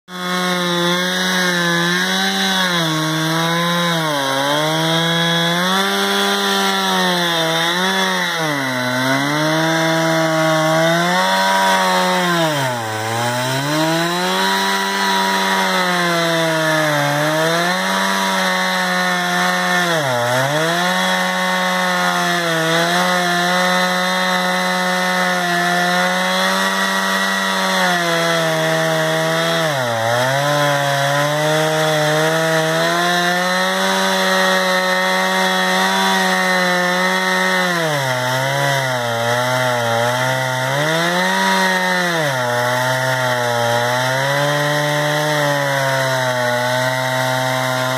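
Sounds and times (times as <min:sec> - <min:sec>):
chainsaw cutting log: 0:00.1 - 0:47.9.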